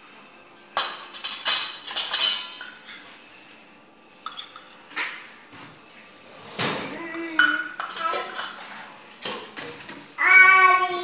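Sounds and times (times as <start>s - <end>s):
metal clinking and clattering: 0.4s - 10.3s.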